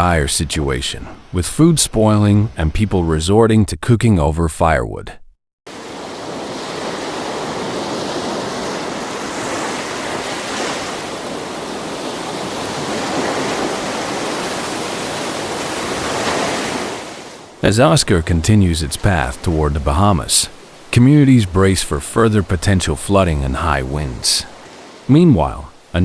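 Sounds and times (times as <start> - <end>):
storm wind and water rushing: 0.0 - 3.2, 5.7 - 26.0.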